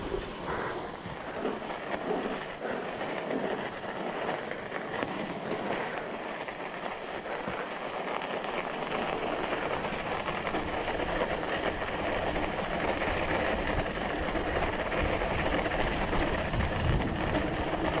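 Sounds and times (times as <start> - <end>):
bike tyres crunching on snow: 0.0 - 18.0.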